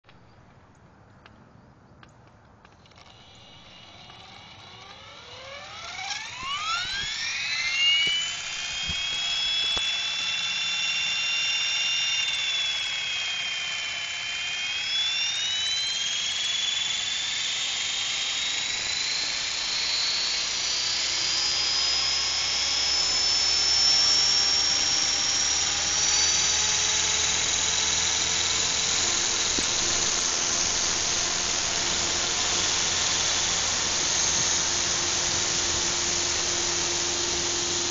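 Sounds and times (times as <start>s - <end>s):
model helicopter motor whine: 2.7s - 37.9s.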